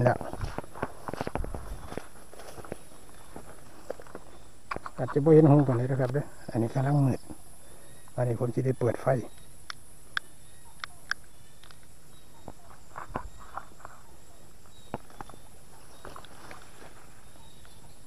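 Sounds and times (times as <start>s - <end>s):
crickets chirping chorus: 0.0s - 18.0s.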